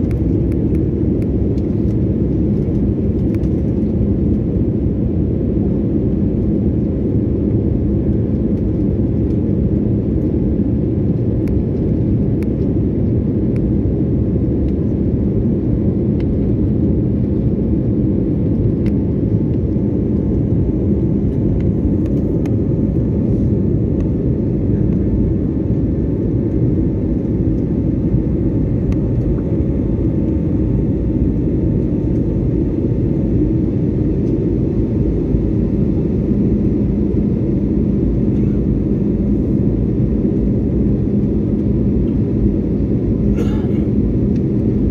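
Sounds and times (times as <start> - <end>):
jet airliner cabin rumble: 0.0 - 44.9.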